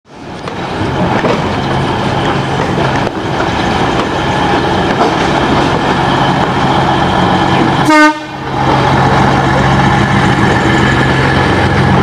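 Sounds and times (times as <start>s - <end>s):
train engine drone: 0.1s - 12.0s
wheels clattering on rails: 0.1s - 12.0s.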